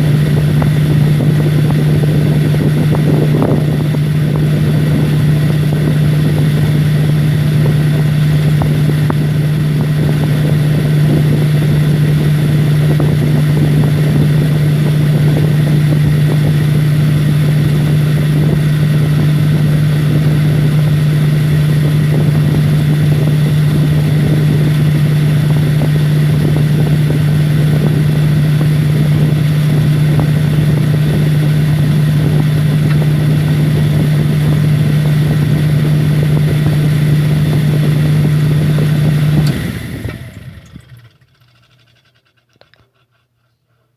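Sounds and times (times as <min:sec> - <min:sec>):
humidifier humming and bubbling: 0:00.0 - 0:41.4.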